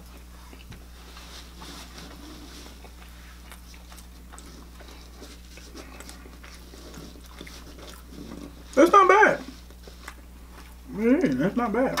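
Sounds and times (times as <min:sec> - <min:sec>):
low electrical hum: 0:00.0 - 0:12.0
mouth chewing food: 0:00.0 - 0:12.0.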